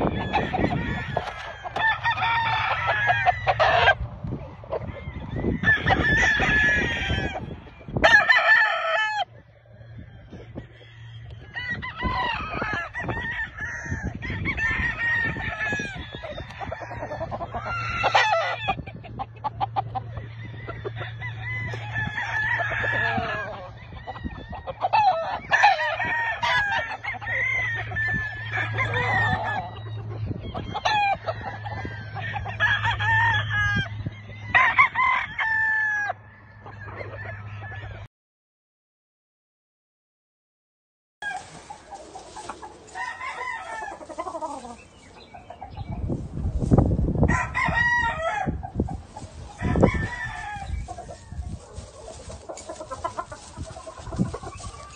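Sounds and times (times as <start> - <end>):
chickens clucking: 0.0 - 34.5, 36.5 - 38.1, 41.2 - 54.9
roosters crowing: 0.0 - 38.1, 41.2 - 54.9.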